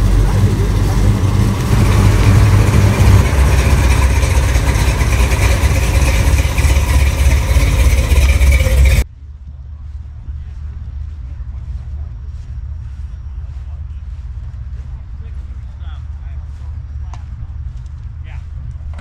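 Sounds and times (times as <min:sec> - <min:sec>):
car engine exhaust rumble: 0:00.0 - 0:19.0.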